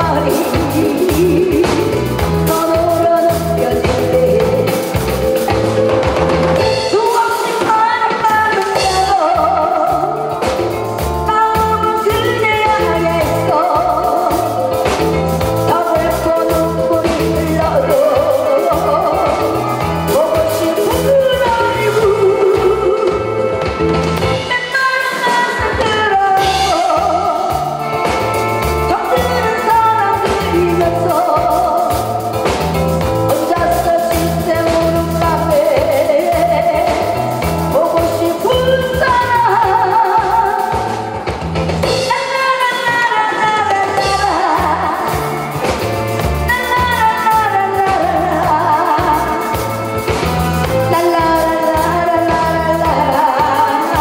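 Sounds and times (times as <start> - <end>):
woman singing with vibrato: 0.0 - 5.7, 6.6 - 32.4, 33.1 - 41.2, 41.8 - 54.0
drum beat and bass accompaniment: 0.0 - 54.0.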